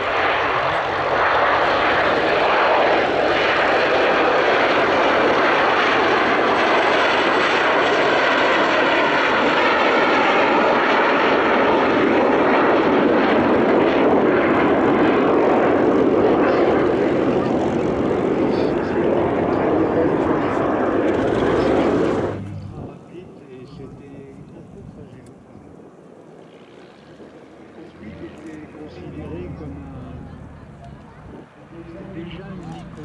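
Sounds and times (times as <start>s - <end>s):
jets flying past: 0.0s - 33.0s.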